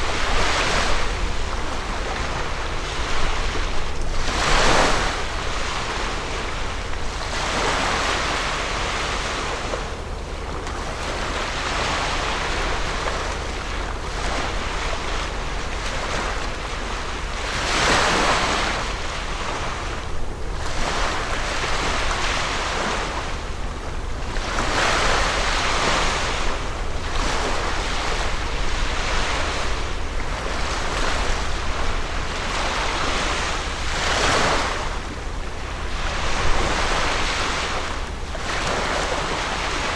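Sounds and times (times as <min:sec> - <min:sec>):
water washing against shore: 0:00.0 - 0:39.9
wind rumble on microphone: 0:00.0 - 0:39.9.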